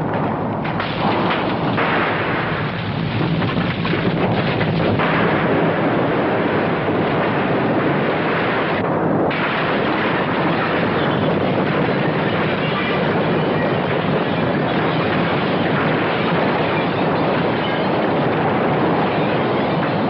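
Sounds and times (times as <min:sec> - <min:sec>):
crashing debris: 0:00.0 - 0:19.8
earthquake rumble: 0:00.0 - 0:20.0.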